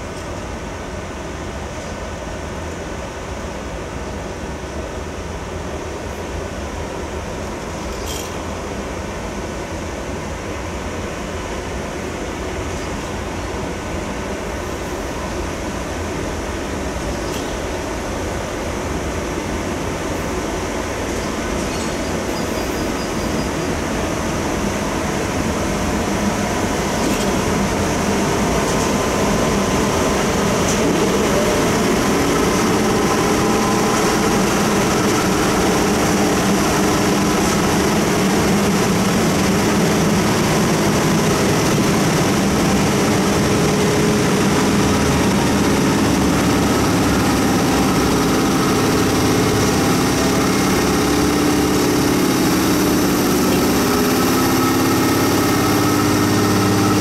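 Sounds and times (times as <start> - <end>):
electric locomotive hum: 0.0 - 57.0
wheels rumbling on rail: 0.0 - 57.0.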